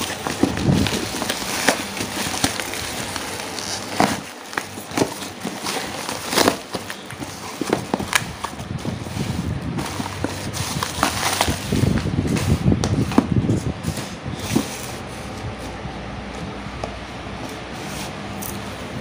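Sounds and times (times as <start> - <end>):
boxes knocking: 0.0 - 15.8
cardboard and bubble wrap rustling: 0.0 - 19.0.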